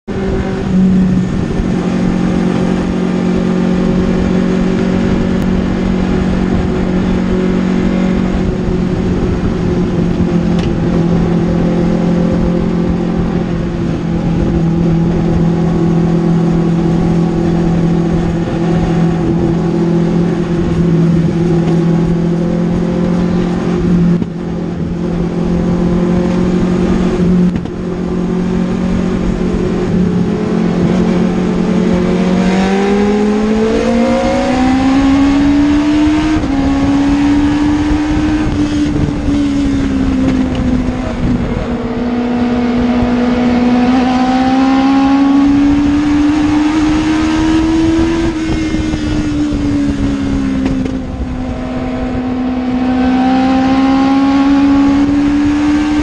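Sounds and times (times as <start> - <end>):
race car engine running: 0.0 - 56.0.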